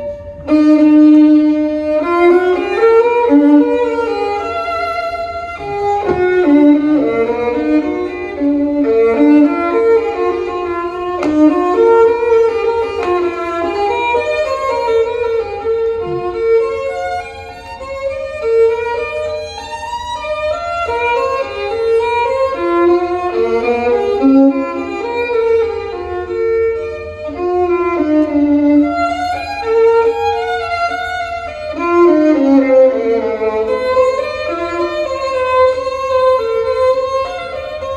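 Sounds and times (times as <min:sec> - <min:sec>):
violin music from a record: 0:00.0 - 0:37.9.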